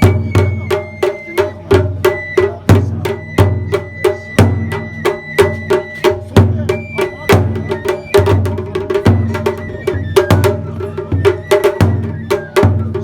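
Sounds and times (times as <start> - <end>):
taiko drum beats: 0.0 - 13.0.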